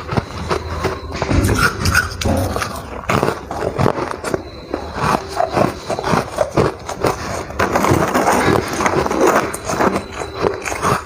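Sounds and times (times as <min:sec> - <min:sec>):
ice crunching while chewed: 0:00.0 - 0:11.0.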